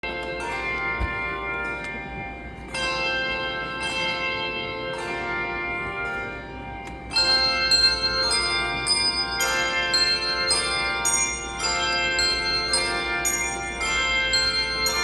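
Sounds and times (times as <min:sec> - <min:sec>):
handbell choir playing: 0:00.0 - 0:15.0.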